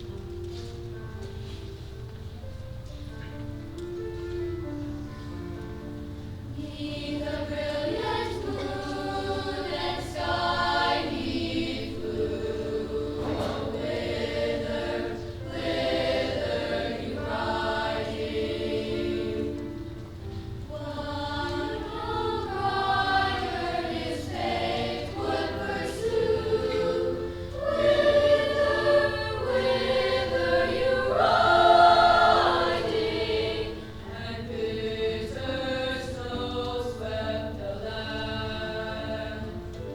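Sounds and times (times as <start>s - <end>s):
children's choir singing: 6.4s - 39.9s.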